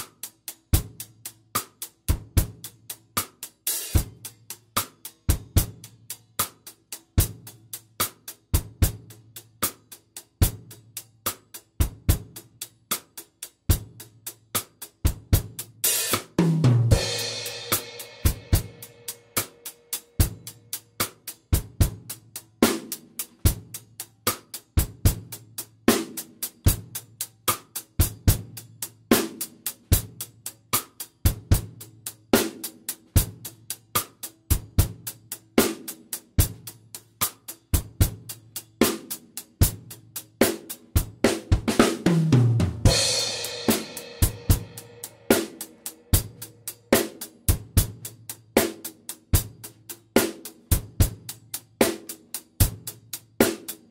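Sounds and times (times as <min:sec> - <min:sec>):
drum kit groove: 0:00.0 - 0:53.9.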